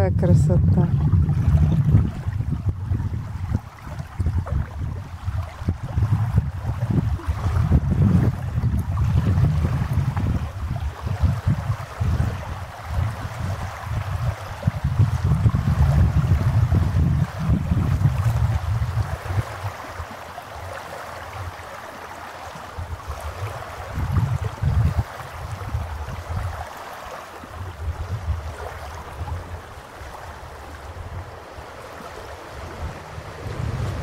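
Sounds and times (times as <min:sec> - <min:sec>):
wind buffeting microphone: 0:00.0 - 0:21.7, 0:22.5 - 0:34.0
small waves lapping on shore: 0:00.0 - 0:34.0.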